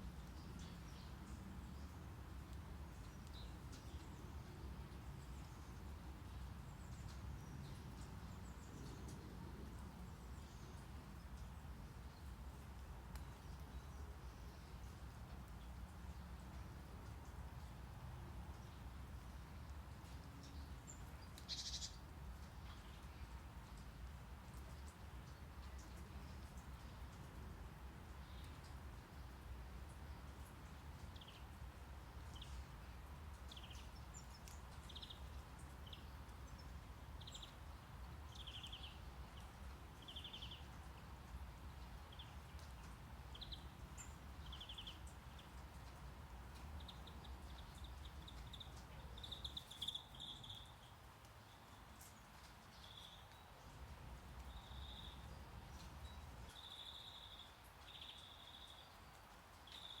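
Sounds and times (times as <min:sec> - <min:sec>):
low rumble of brown noise: 0:00.0 - 1:00.0
small birds chirping: 0:00.1 - 0:17.7, 0:18.4 - 1:00.0.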